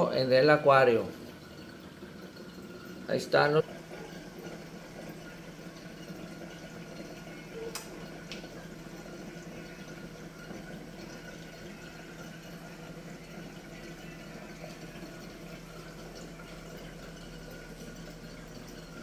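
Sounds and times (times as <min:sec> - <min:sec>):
water bubbling and trickling: 0:00.0 - 0:19.0.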